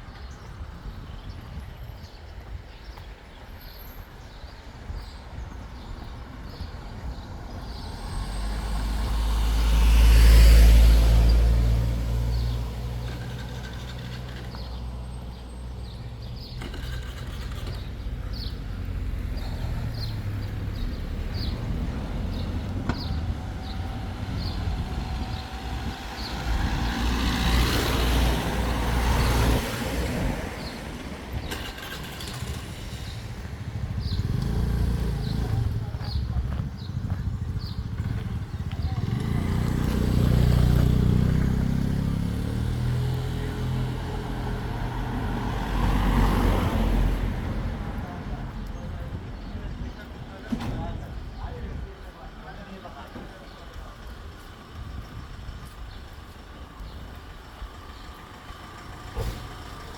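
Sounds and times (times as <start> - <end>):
vehicles passing on road: 0.0 - 59.9.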